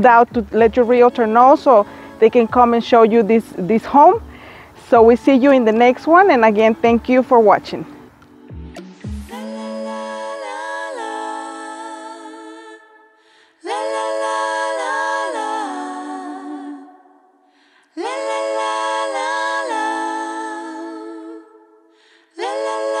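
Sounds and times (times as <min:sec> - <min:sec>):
a cappella singing: 0:00.0 - 0:07.9, 0:08.8 - 0:23.0.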